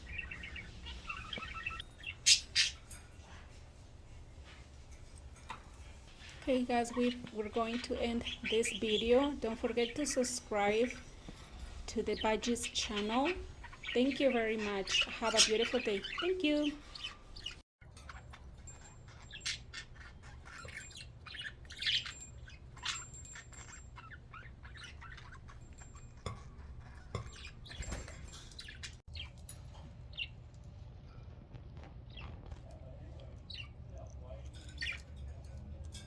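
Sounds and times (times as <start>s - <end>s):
budgies chirping and squawking: 0.0s - 3.5s, 5.4s - 29.4s, 32.1s - 35.6s.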